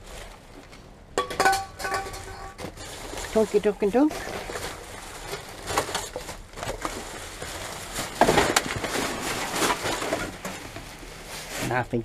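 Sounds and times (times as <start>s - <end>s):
plastic bags rustling: 0.0s - 12.0s.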